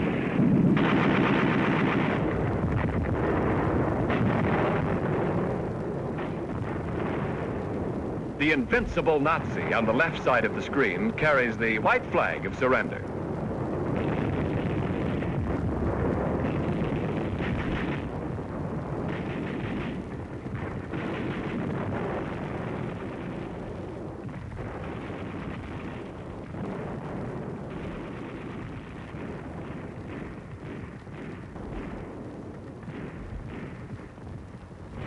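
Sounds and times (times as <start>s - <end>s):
artillery rumble: 0.0s - 35.0s
battle gunfire: 0.0s - 35.0s.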